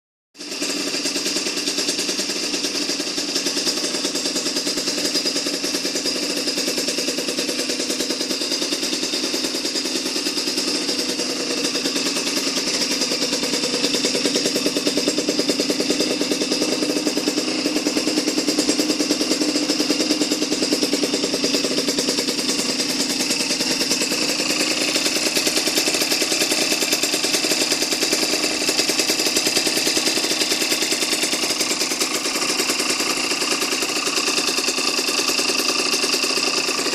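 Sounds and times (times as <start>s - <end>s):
two-stroke engine running: 0.4s - 36.9s.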